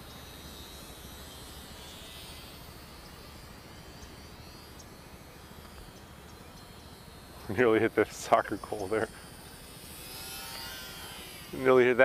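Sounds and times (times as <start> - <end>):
high whine of small electric motor: 0.0 - 12.0
outdoor background hiss: 0.0 - 12.0.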